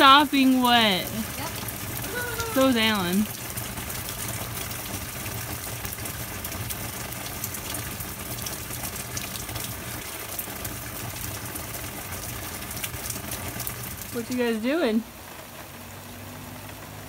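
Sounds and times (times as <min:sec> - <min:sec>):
raindrops ticking on surfaces: 0:00.0 - 0:17.0
steady rain: 0:00.0 - 0:17.0.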